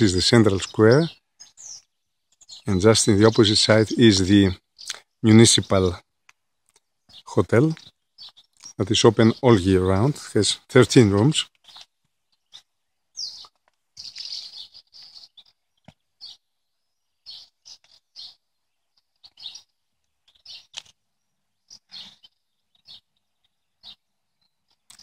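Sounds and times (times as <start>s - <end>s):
small songbirds chirping: 0.0s - 25.0s.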